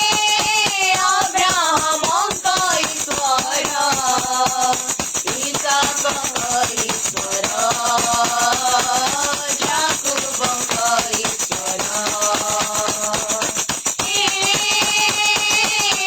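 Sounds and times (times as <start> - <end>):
percussion rhythm: 0.0 - 16.0.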